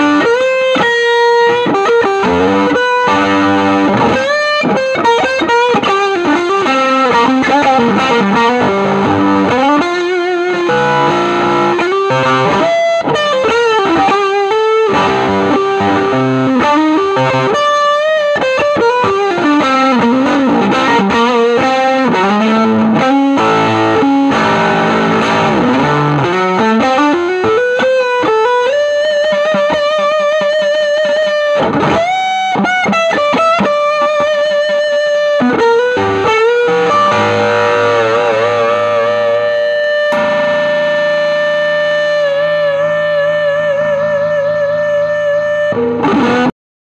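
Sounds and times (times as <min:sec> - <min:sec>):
distorted fuzz electric guitar: 0:00.0 - 0:46.6.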